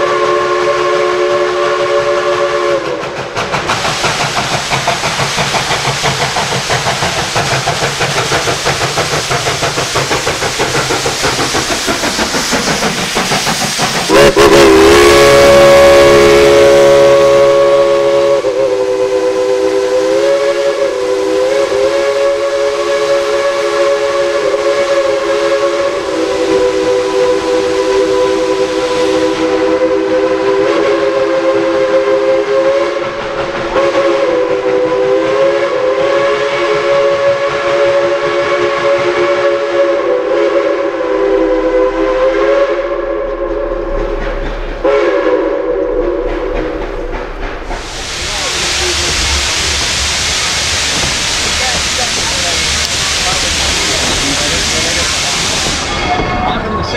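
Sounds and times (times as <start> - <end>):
steam locomotive chuffing: 0.0 - 56.9.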